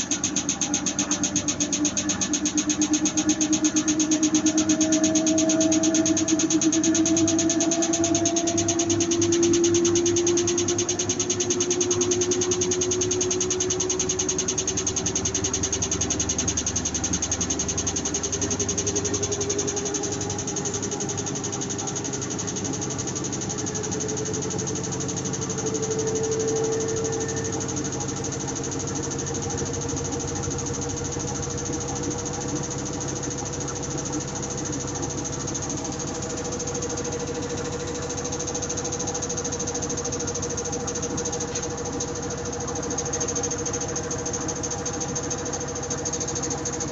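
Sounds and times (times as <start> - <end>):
fast clattering rattle: 0.0 - 46.9
washing machine motor whine: 0.0 - 46.9.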